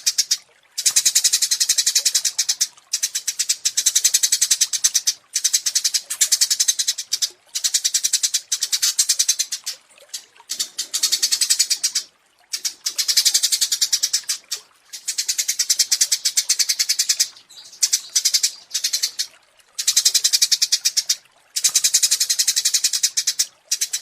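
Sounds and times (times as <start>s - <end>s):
songbird chattering trill: 0.8s - 9.7s, 10.5s - 24.0s.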